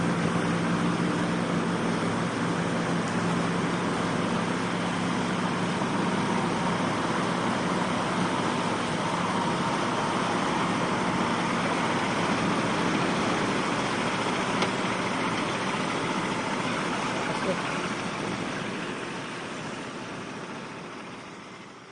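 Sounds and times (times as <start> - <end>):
constant rushing noise: 0.0 - 21.6
vehicle engine running: 0.0 - 21.9.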